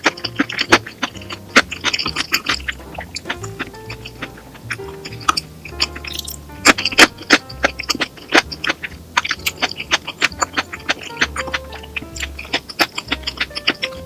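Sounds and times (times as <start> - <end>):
faint background music: 0.0 - 14.0
sharp clicks and taps: 0.0 - 14.0.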